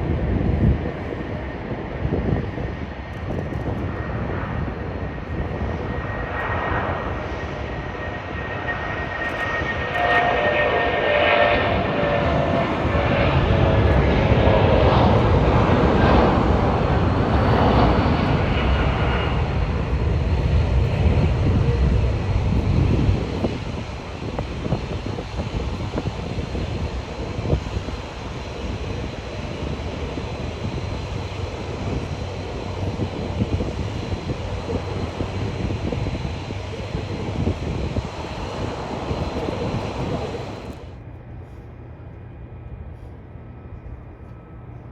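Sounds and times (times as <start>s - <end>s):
jet engine roar with whine: 0.0s - 44.9s.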